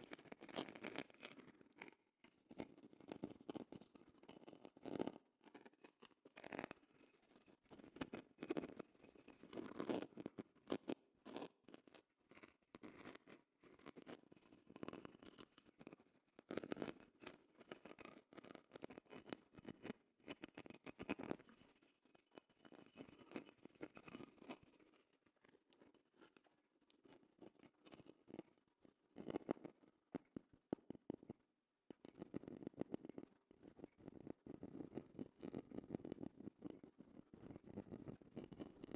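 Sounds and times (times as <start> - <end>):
scratching on a shell: 0.0 - 38.9.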